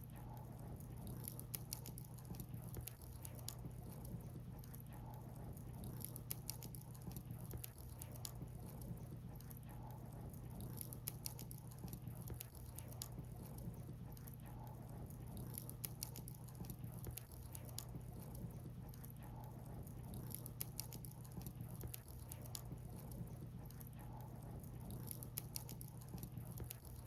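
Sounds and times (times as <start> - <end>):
low steady hum: 0.0 - 27.0
wood fire crackling: 0.1 - 27.0.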